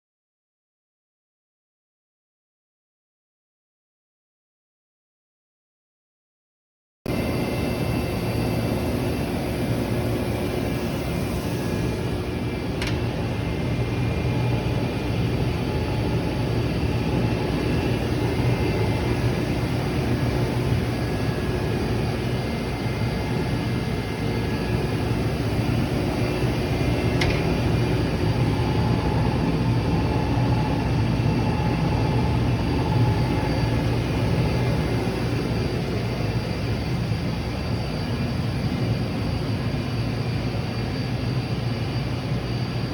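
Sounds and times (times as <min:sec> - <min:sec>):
machine hum with constant tones: 0:07.1 - 0:42.9.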